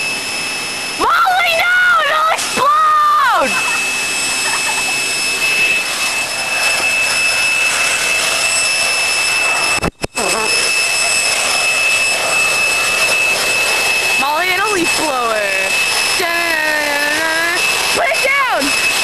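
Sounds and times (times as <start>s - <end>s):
electric leaf blower running: 0.0s - 19.0s.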